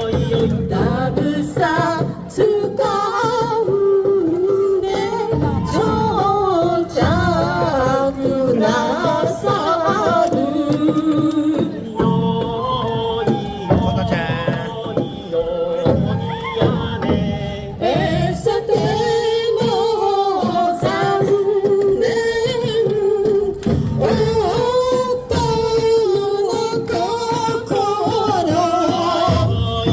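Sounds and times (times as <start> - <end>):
song with singing voices: 0.0 - 29.9.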